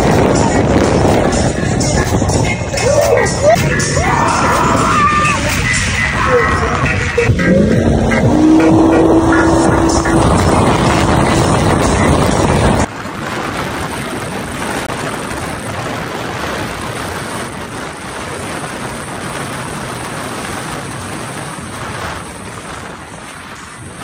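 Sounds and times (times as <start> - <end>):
engine tyre and wind noise: 0.0 - 24.0.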